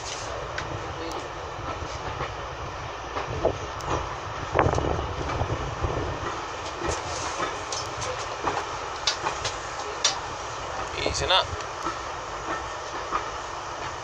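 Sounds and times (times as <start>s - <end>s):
rail joint clicks and knocks: 0.0s - 2.4s, 3.1s - 14.0s
train wheels rumbling: 0.0s - 14.0s.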